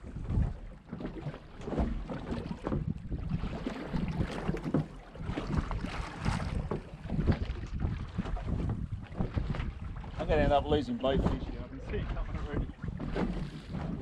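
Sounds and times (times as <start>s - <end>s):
waves slapping boat hull: 0.0s - 14.0s
wind buffeting microphone: 0.0s - 14.0s.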